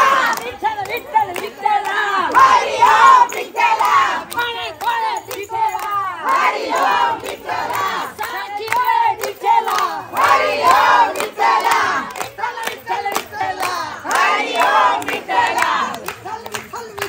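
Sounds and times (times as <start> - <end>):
crowd shouting and chanting: 0.0 - 17.0
sharp claps: 0.0 - 17.0.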